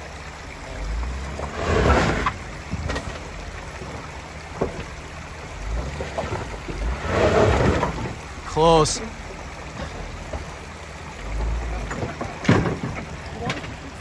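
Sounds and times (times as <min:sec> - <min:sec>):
creek water rushing: 0:00.0 - 0:14.0
off-road vehicle engine surging: 0:00.0 - 0:14.0.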